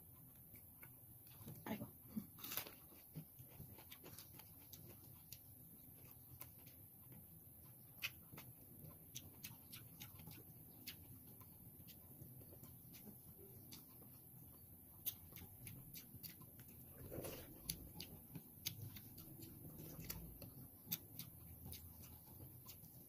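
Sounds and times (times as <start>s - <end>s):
person chewing raw vegetables: 0.0s - 23.0s.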